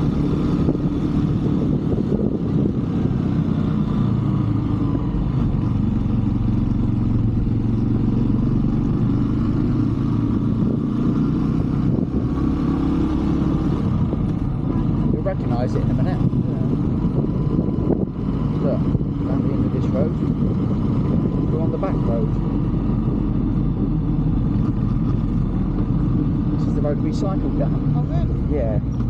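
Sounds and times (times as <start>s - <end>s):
motorbike engine drone: 0.0s - 29.0s
road noise: 0.0s - 29.0s.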